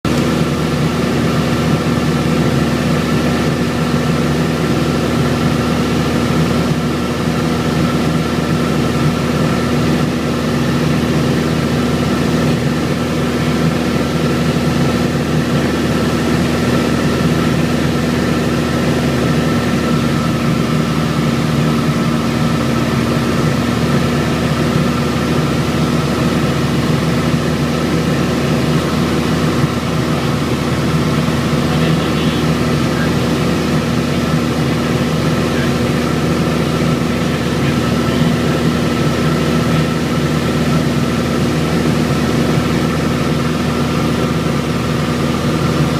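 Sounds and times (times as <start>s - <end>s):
propeller airplane engine droning: 0.0s - 45.9s.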